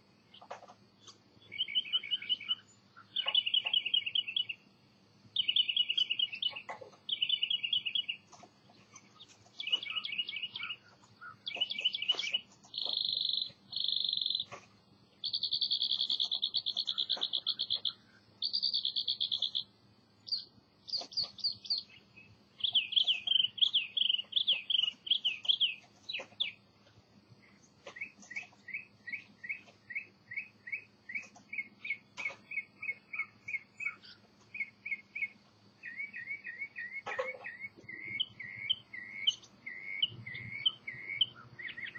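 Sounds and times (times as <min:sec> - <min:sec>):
faint high hum: 0:00.0 - 0:41.9
songbird singing: 0:00.0 - 0:41.9.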